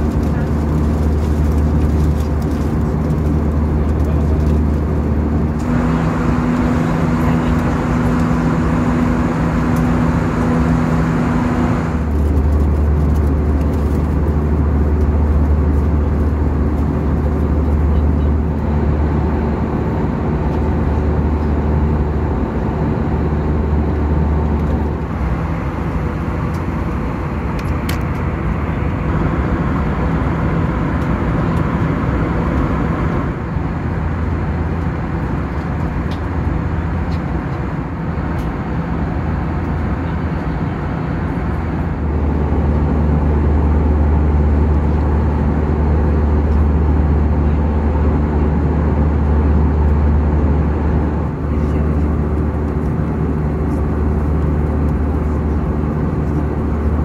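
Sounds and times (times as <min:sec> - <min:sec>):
jet cabin drone: 0:00.0 - 0:57.0.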